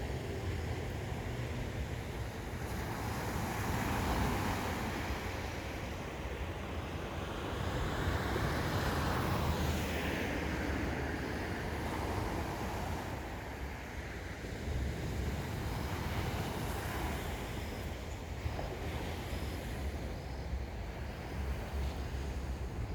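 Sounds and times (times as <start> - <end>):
wind rumble on microphone: 0.0 - 22.9.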